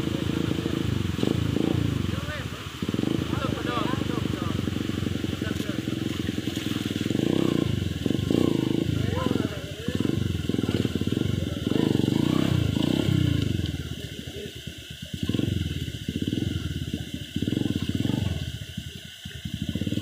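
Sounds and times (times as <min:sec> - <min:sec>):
dirt bike engine revving: 0:00.0 - 0:20.0
stream rushing: 0:00.0 - 0:20.0.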